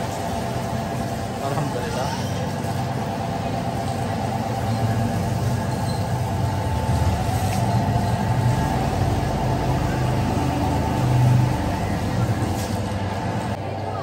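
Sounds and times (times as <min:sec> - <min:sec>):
floor grinding machine whine: 0:00.0 - 0:13.9.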